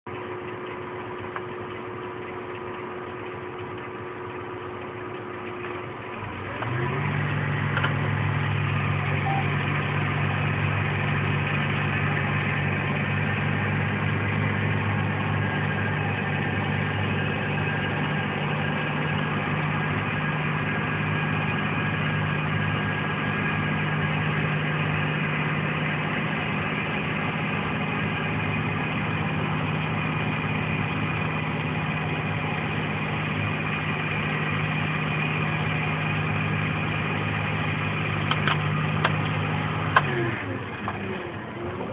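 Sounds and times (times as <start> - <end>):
tractor engine droning: 0.1 - 41.9.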